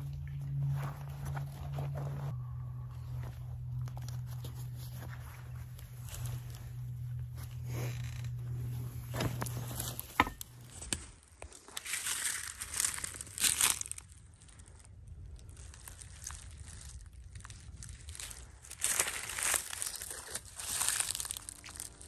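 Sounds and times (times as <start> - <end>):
footsteps crunching dry leaves: 0.1 - 22.0.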